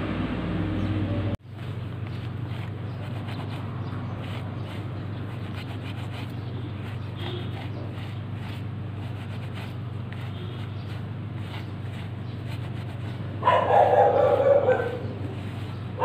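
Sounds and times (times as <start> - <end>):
towel rubbing on suede shoe: 1.5 - 16.0.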